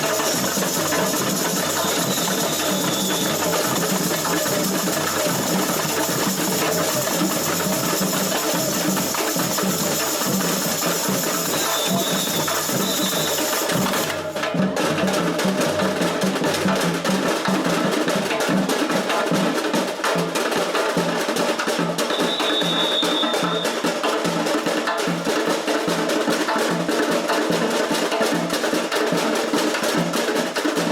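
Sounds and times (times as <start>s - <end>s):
samba drums playing fast rhythm: 0.0s - 30.9s.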